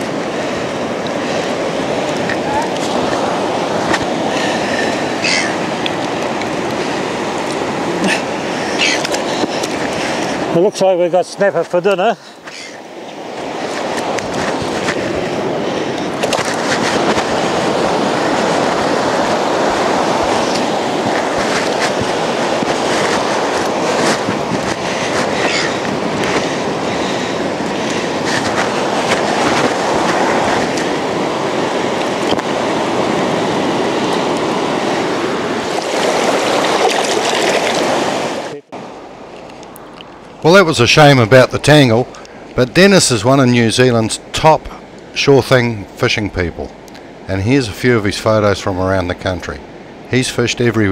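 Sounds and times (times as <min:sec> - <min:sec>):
surf washing onto beach: 0:00.0 - 0:50.9.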